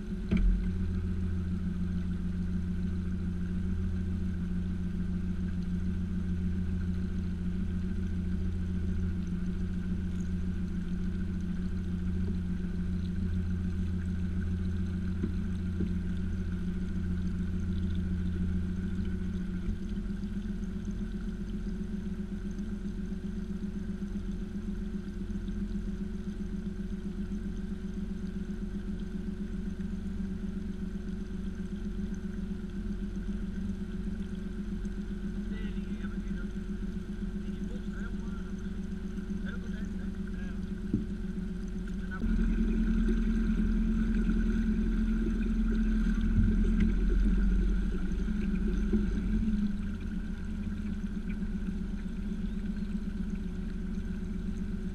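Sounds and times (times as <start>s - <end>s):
boat motor humming: 0.0s - 54.9s.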